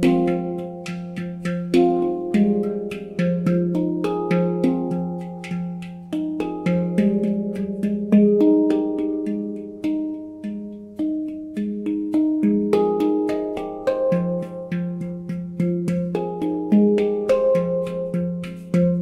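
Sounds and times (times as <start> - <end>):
handpan notes played by hand: 0.0 - 19.0.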